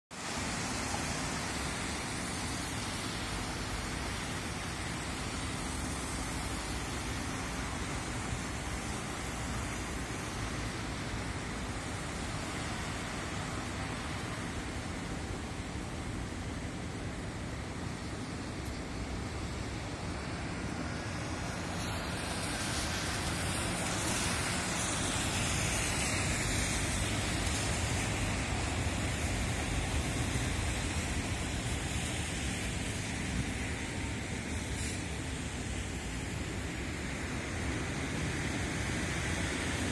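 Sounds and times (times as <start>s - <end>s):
distant road traffic hiss: 0.1s - 39.9s.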